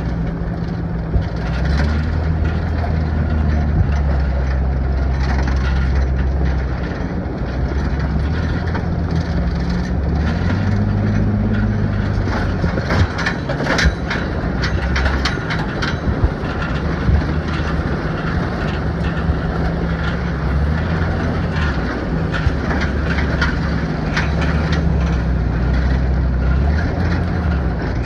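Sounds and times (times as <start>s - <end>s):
metal shackles clanking: 0.0s - 28.0s
truck engine running low: 0.0s - 28.0s.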